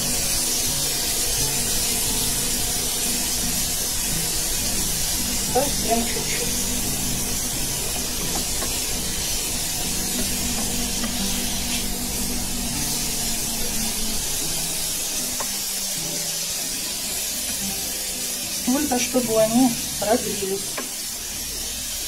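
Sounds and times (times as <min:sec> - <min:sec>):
cucumber sizzling in hot oil: 0:00.0 - 0:22.0.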